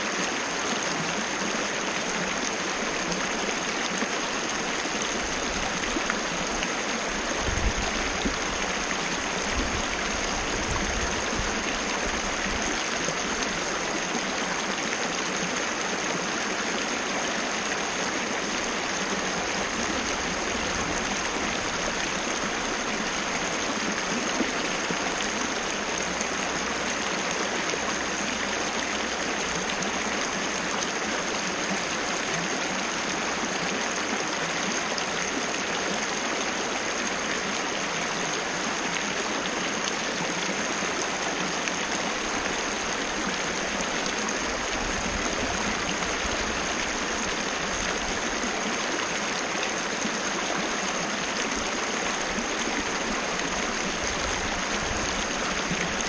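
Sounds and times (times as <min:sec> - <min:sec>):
small waterfall splashing: 0:00.0 - 0:56.0.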